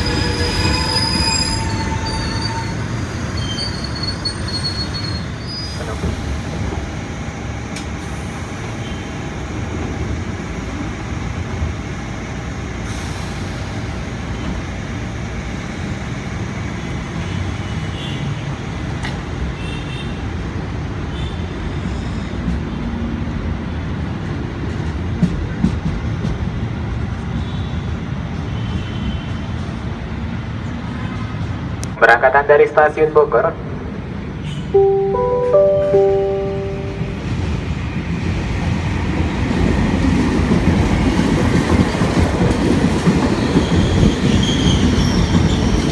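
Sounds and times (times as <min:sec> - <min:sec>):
train wheels rumbling on rails: 0:00.0 - 0:31.9, 0:37.1 - 0:45.9.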